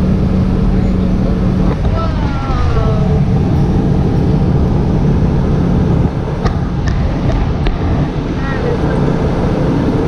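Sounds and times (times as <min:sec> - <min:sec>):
falling whine: 0:00.0 - 0:10.0
motorhome engine droning: 0:00.0 - 0:10.0.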